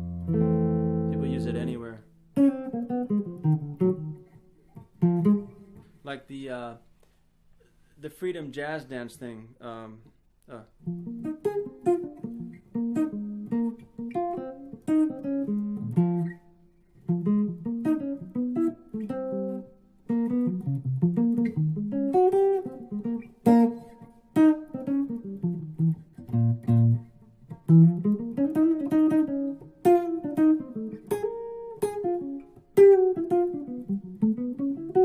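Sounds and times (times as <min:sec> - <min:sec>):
guitar playing jazz licks: 0:00.0 - 0:06.7, 0:10.7 - 0:35.0.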